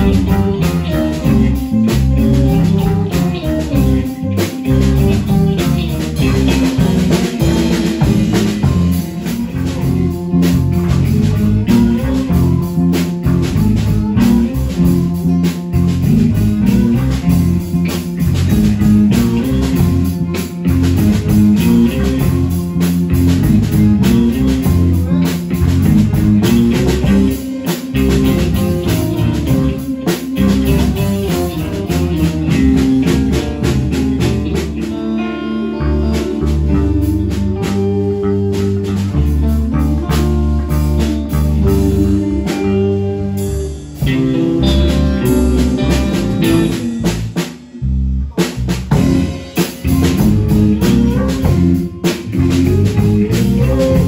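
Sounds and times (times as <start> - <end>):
bass guitar: 0.0 - 54.0
drum kit: 0.0 - 54.0
guitar: 0.0 - 54.0.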